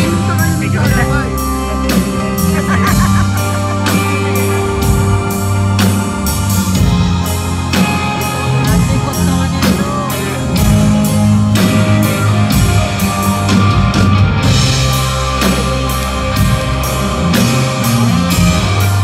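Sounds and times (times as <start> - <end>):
bass guitar: 0.0 - 19.0
drum kit beat: 0.0 - 19.0
electric guitar lead: 0.0 - 19.0.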